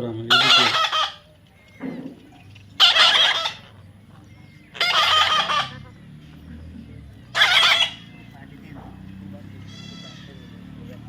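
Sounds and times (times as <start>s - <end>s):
loud bird calls: 0.1s - 6.4s, 7.2s - 11.0s.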